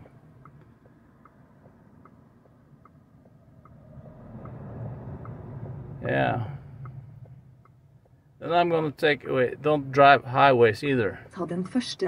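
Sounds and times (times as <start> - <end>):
road and tyre rumble: 0.0 - 12.0
turn signal ticking: 0.0 - 12.0.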